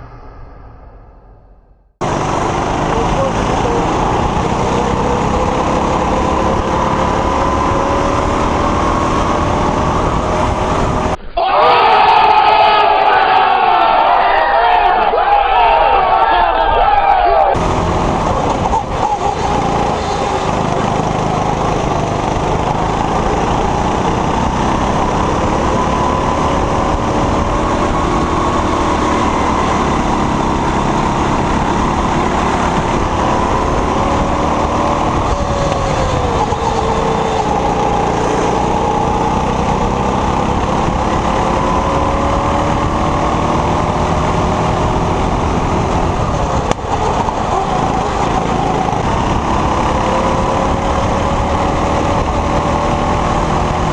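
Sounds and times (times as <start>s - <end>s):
go-kart engine revving: 2.0s - 11.9s, 17.5s - 53.9s.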